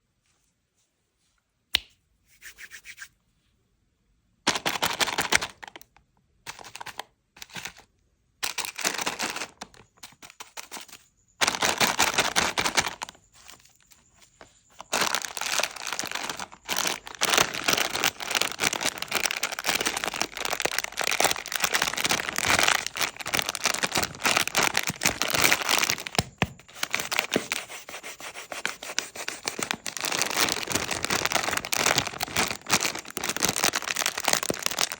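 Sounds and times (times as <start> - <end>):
plastic wrapper crinkling: 6.5 - 34.9.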